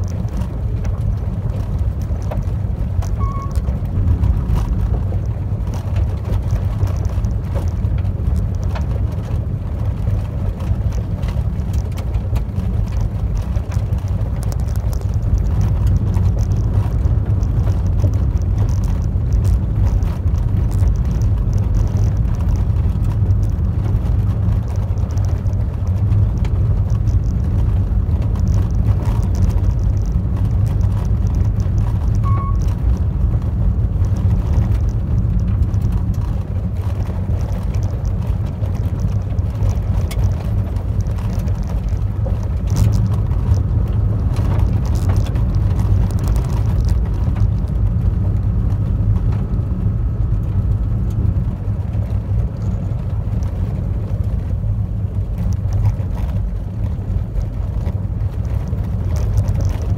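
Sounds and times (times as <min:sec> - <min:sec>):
gravel clicking against car: 0:00.0 - 0:59.9
tyres rumbling on gravel road: 0:00.0 - 0:59.9.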